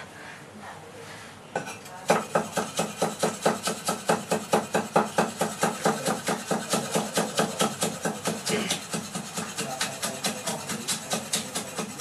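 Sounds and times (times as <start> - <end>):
cleaver chopping on board: 2.1 - 12.0.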